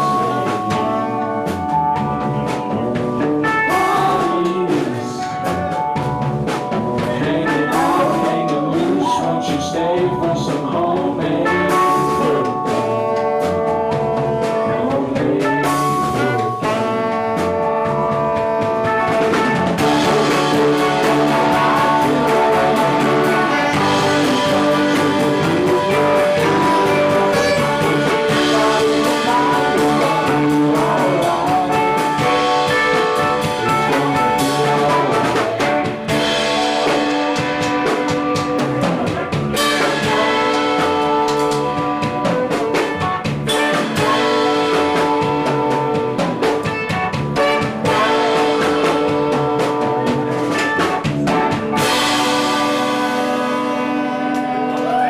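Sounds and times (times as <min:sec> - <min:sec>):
drum kit beating: 0:00.0 - 0:55.0
live band playing: 0:00.0 - 0:55.0.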